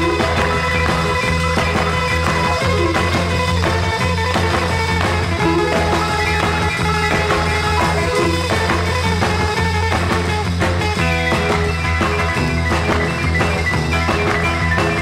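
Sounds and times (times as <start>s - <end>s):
rock music with bass line: 0.0s - 15.0s.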